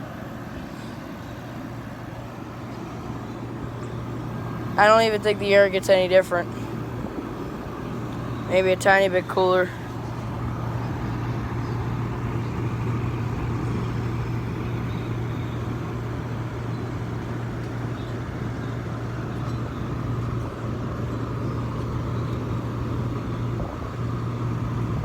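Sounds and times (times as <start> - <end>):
air conditioner fan noise: 0.0 - 25.0
low compressor hum: 0.0 - 25.0.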